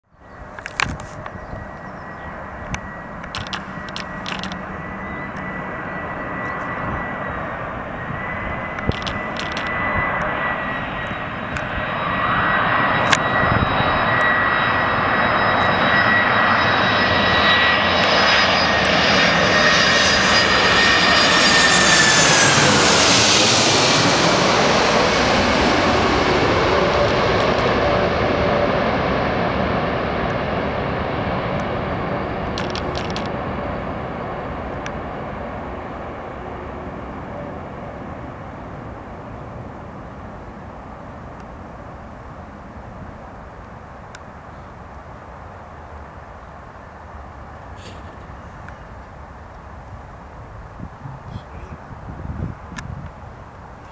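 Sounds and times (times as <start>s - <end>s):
jet engine whine: 0.1s - 53.9s
jet rumble: 0.3s - 53.9s.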